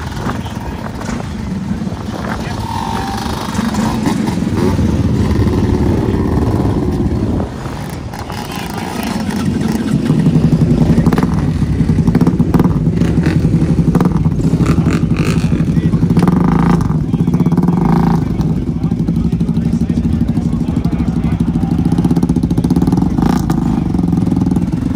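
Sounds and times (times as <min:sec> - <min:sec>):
lawn mower engines running: 0:00.0 - 0:24.9
engine pulsing beat: 0:02.4 - 0:24.9.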